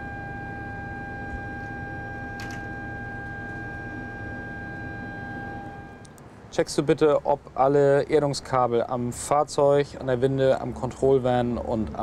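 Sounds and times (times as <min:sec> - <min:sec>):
ship machinery whine and rumble: 0:00.0 - 0:12.0.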